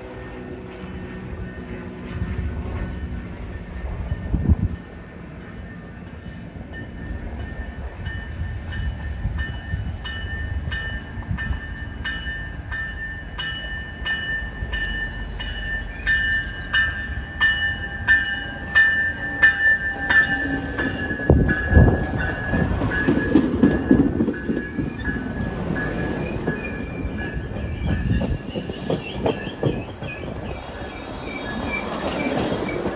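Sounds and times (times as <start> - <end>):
passenger train passing: 0.0 - 32.9
train rumble and wheel clatter: 0.0 - 32.9.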